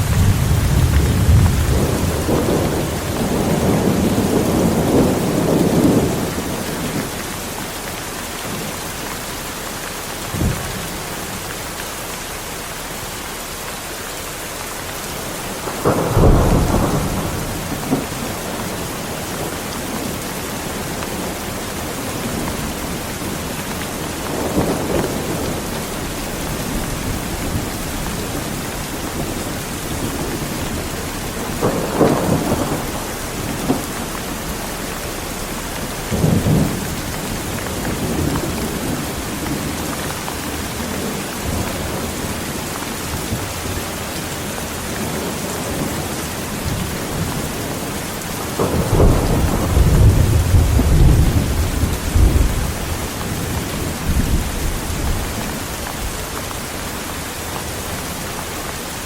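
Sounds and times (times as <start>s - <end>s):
thunder rumbling: 0.0s - 7.4s, 15.1s - 56.9s
heavy rain falling: 0.0s - 59.0s.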